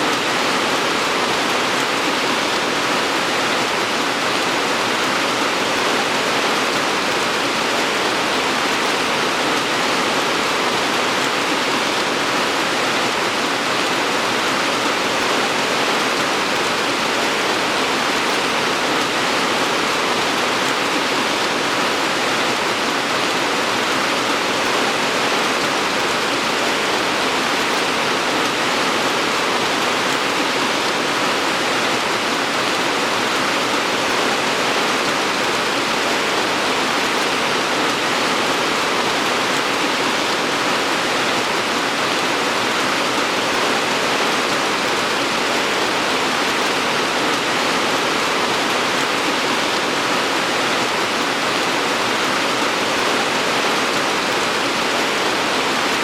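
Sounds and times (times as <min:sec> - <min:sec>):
dense rainfall: 0:00.0 - 0:56.0.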